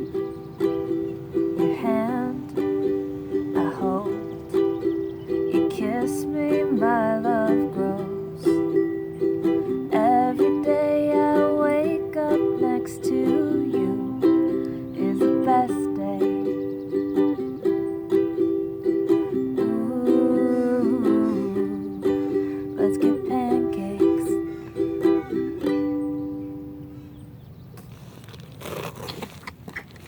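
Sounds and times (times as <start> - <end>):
strummed string instrument chords: 0.0 - 26.9.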